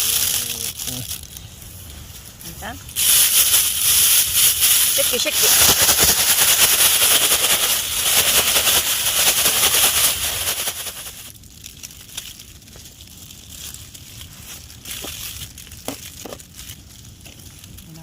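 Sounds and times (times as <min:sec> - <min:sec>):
plastic crinkling and rustling: 0:00.0 - 0:18.0
scattered crackles and clicks: 0:00.0 - 0:18.0.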